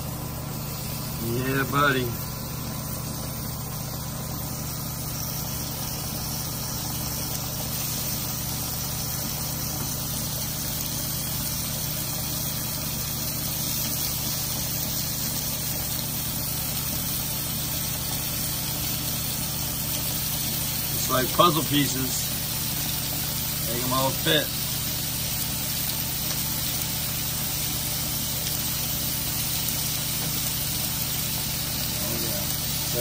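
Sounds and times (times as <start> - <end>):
fish searing sizzle: 0.0 - 33.0.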